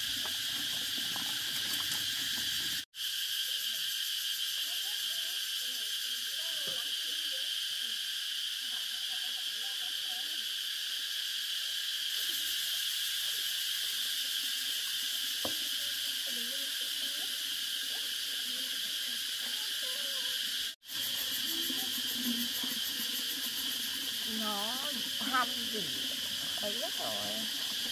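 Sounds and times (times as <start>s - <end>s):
insects buzzing: 0.0s - 27.9s.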